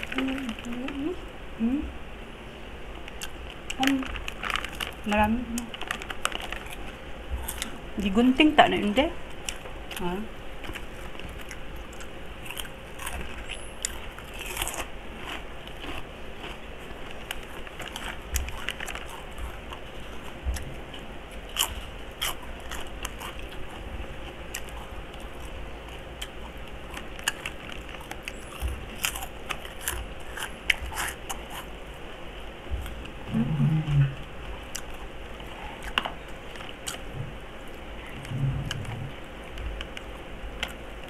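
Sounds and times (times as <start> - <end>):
crunchy snack being chewed: 3.0 - 7.8, 9.3 - 31.8, 34.6 - 40.8.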